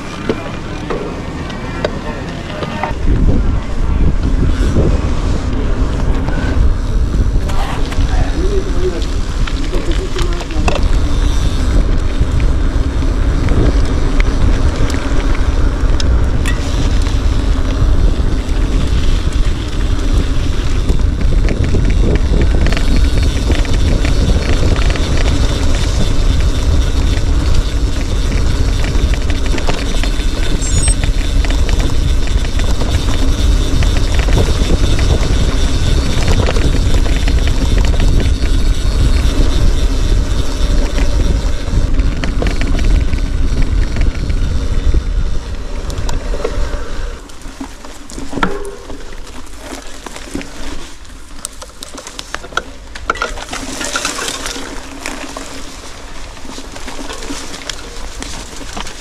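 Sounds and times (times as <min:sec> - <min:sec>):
vehicle rumble: 0:00.0 - 0:59.0
wind noise on microphone: 0:02.5 - 0:59.0.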